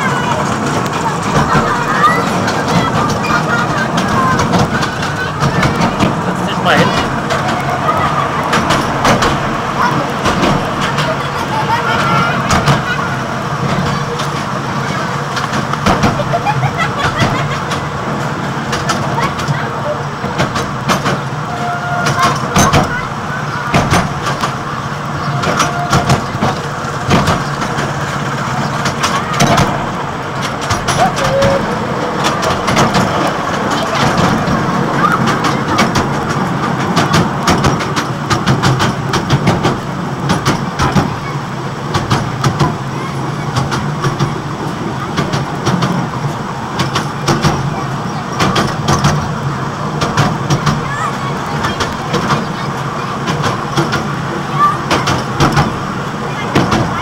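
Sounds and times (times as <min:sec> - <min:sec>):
carriages knocking and clattering: 0:00.0 - 0:57.0
train drone: 0:00.0 - 0:57.0
wagon rattling clicks: 0:00.0 - 0:57.0.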